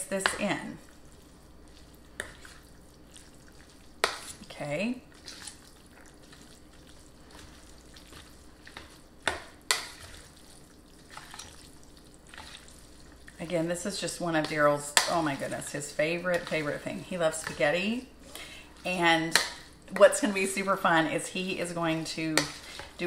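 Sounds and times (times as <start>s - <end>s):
wet stirring of pasta: 0.0s - 23.0s.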